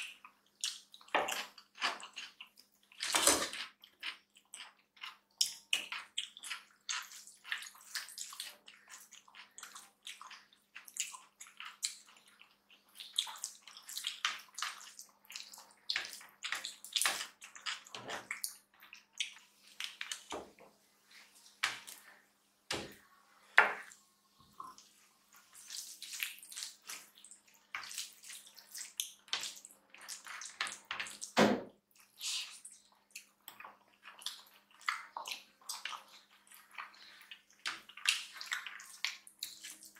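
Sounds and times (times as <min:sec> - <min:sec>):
wet chewing: 0:00.0 - 0:22.2, 0:23.7 - 0:39.9.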